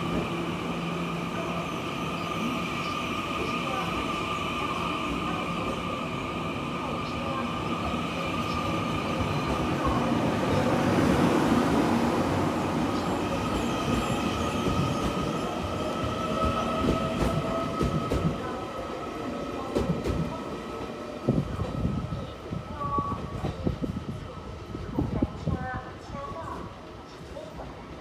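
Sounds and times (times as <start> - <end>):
train cars rumbling: 0.0 - 27.9.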